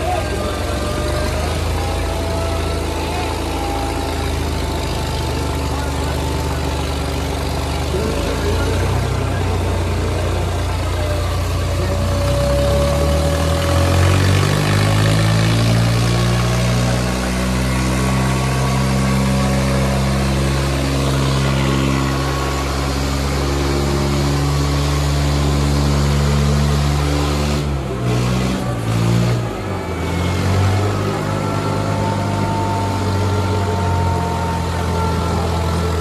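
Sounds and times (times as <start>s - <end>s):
diesel tractor engines under load: 0.0s - 36.0s.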